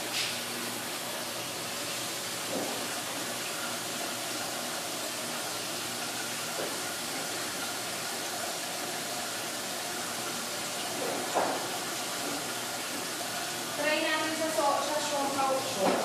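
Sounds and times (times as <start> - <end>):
aquarium filter bubbling hiss: 0.0 - 16.0.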